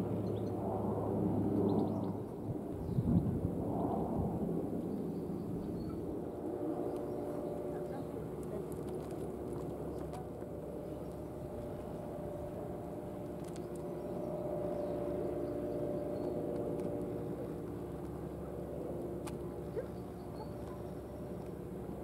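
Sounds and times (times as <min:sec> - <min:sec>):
engine drone: 0:03.5 - 0:22.0.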